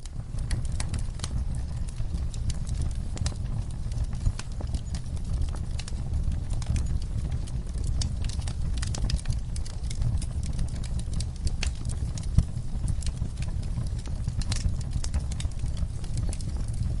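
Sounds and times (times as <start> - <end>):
soft rainfall: 0.0 - 17.0
wood fire crackling: 0.0 - 17.0.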